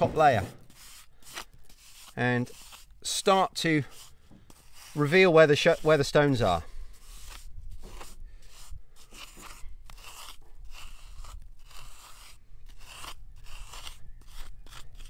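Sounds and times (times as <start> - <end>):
wooden stick scraping mortar: 0.0 - 15.0.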